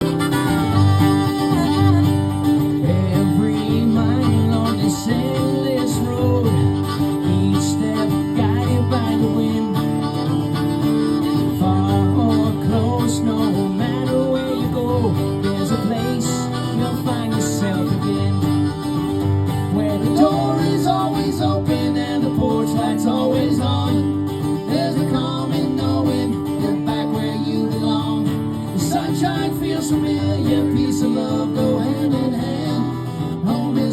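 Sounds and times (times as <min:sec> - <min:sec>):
bending melody line: 0:00.0 - 0:33.5
strummed acoustic guitar chords: 0:00.0 - 0:33.9.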